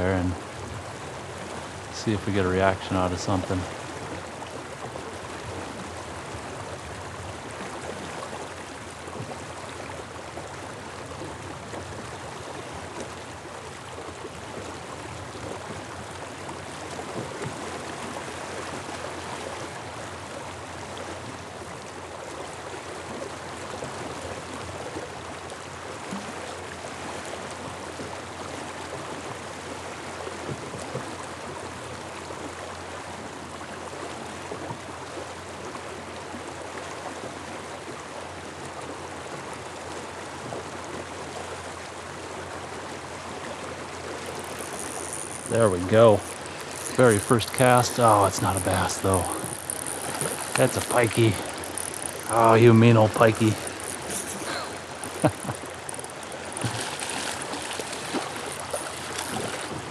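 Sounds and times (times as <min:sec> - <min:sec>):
river water rushing over riffles: 0:00.0 - 0:59.9.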